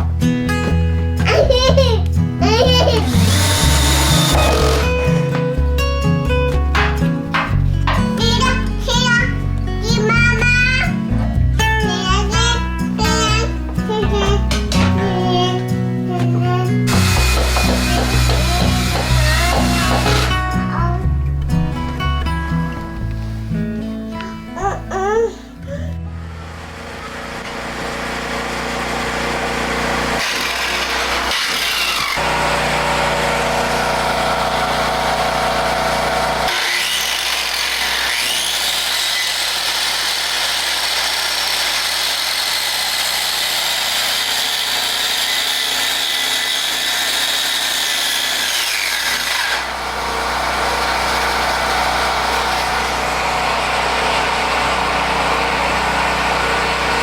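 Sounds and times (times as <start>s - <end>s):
power saw cutting wood: 1.2s - 10.9s, 11.8s - 20.8s, 26.0s - 57.0s.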